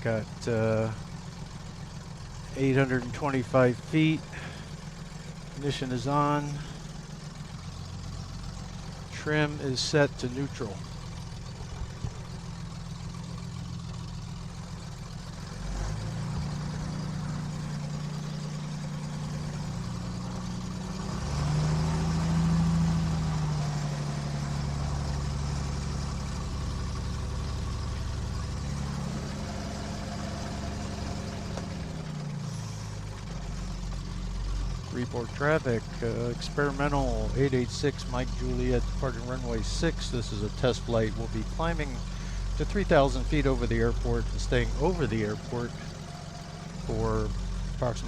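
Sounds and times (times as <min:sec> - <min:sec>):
light aircraft engine running: 0:00.0 - 0:48.0.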